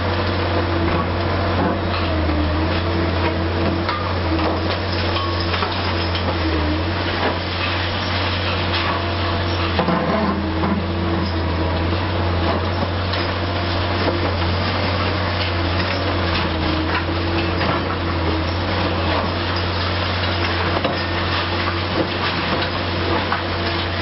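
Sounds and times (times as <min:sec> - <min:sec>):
excavator diesel engine drone: 0:00.0 - 0:24.0.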